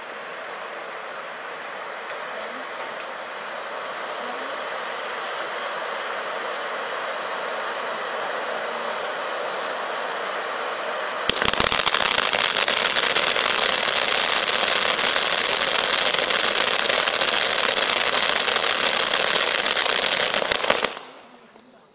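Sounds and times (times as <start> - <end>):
hiss of spraying sparks: 0.0 - 21.6
firework crackling: 0.0 - 21.9.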